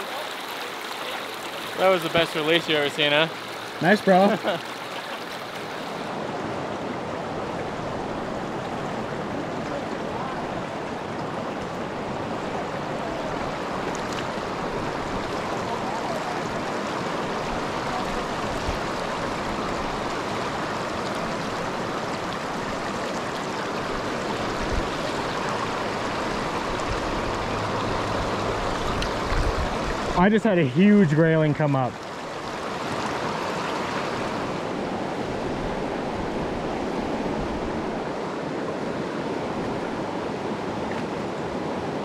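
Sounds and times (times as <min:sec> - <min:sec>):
creek rushing over rocks: 0:00.0 - 0:42.0.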